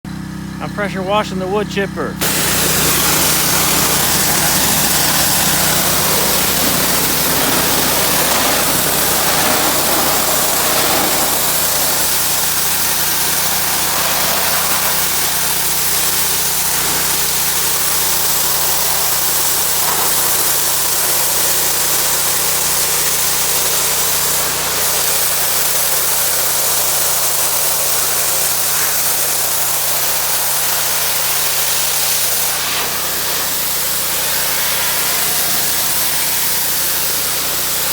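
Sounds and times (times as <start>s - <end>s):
pressure washer motor drone: 0.1s - 37.9s
high-pressure water spray hiss: 2.2s - 37.9s.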